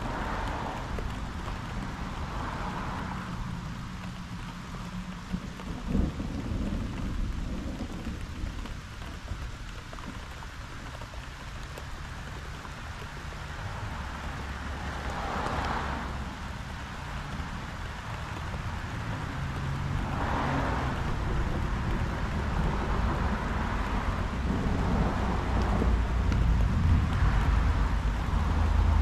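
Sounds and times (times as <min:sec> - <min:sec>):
low thunder rumbling: 0:00.0 - 0:10.8, 0:16.2 - 0:29.0
rain falling: 0:00.0 - 0:29.0.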